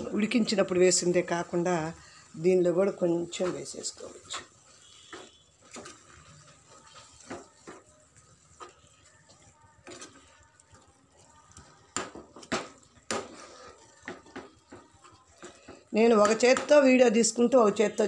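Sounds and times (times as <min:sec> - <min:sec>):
spoon scraping a pan: 0:00.0 - 0:18.0.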